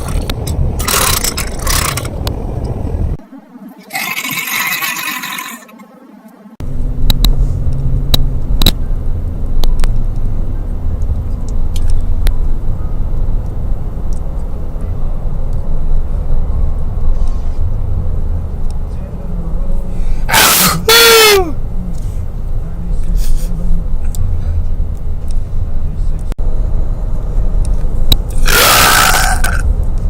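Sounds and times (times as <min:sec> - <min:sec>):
steady low rumble: 0:00.0 - 0:03.8, 0:06.6 - 0:20.3, 0:21.4 - 0:30.0.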